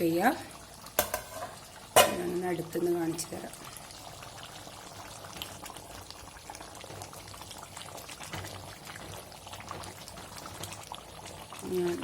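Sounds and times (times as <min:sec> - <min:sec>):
curry bubbling with small pops: 0:00.0 - 0:12.0.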